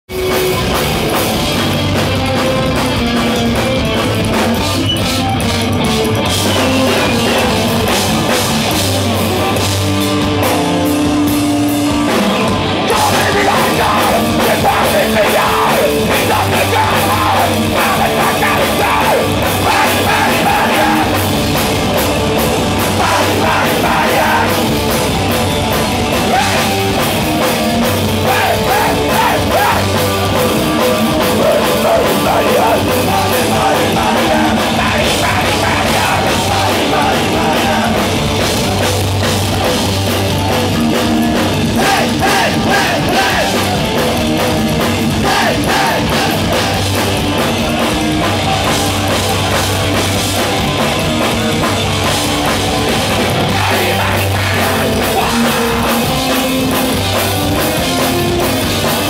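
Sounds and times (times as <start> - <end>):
drums: 0.0 - 59.0
electric guitar: 0.0 - 59.0.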